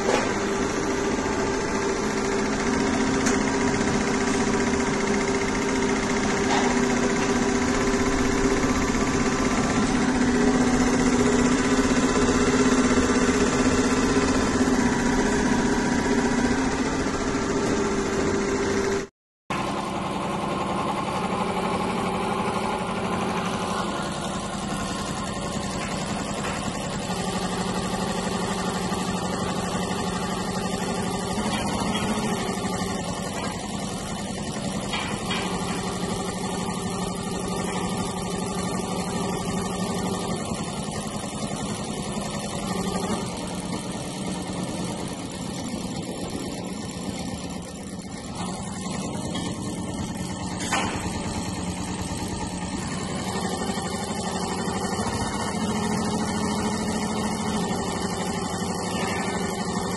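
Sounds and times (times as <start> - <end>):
embroidery machine running: 0.0 - 59.9.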